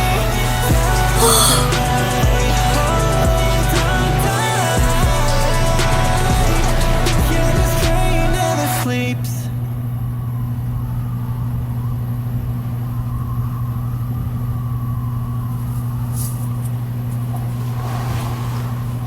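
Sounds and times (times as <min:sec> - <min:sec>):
vehicle rumbling: 0:00.0 - 0:08.5, 0:09.4 - 0:19.0.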